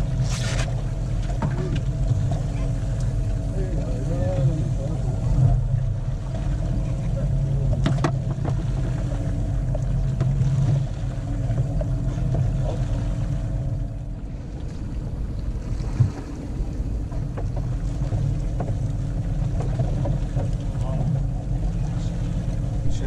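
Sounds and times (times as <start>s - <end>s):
boat engine running: 0.0s - 23.0s
sea noise: 0.0s - 23.0s
wind: 0.0s - 23.0s.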